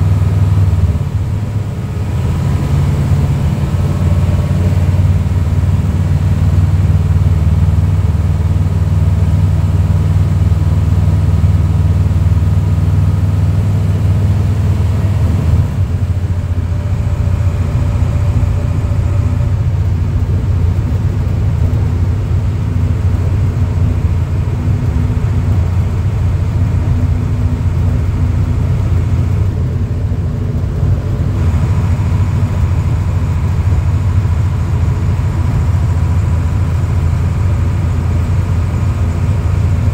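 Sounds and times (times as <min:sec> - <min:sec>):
diesel engine low drone: 0:00.0 - 0:39.9.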